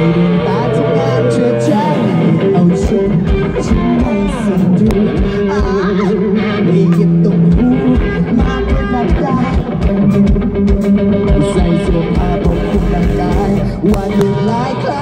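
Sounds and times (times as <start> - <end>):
live rock band over pa: 0.0 - 15.0.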